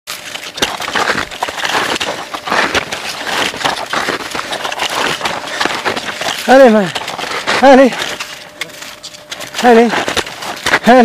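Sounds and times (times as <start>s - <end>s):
footsteps crunching through snow: 0.1s - 11.0s.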